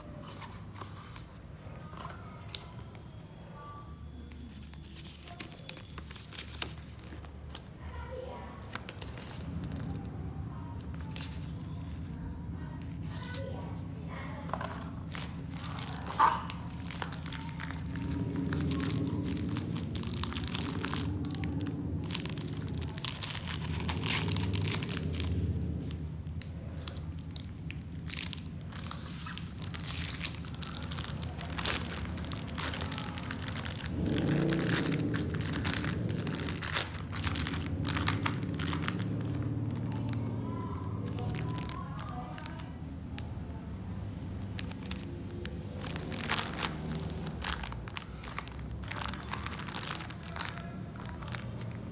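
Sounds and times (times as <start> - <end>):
plastic packaging crinkling: 0.0 - 3.3, 4.3 - 42.8, 44.1 - 51.9.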